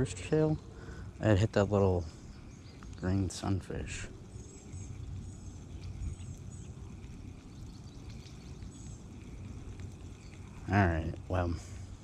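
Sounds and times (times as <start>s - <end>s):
faint bird chirps: 0.0s - 12.0s
wind rumbling on microphone: 0.0s - 12.0s.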